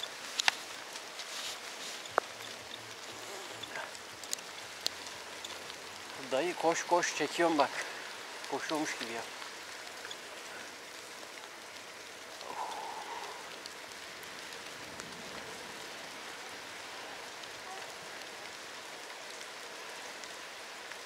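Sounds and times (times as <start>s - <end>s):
tyres hissing on wet road: 0.0s - 21.0s.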